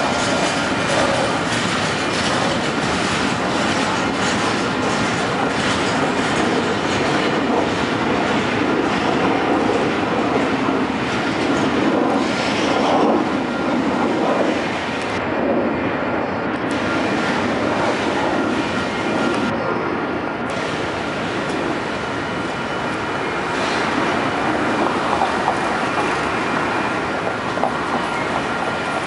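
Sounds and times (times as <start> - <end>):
freight train wheels rumbling on rails: 0.0 - 29.0.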